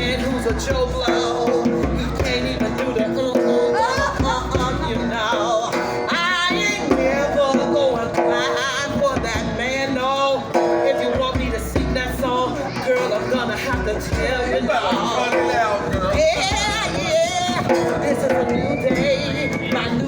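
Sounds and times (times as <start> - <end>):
guitar accompaniment: 0.0 - 20.0
person singing wordless runs: 0.0 - 20.0.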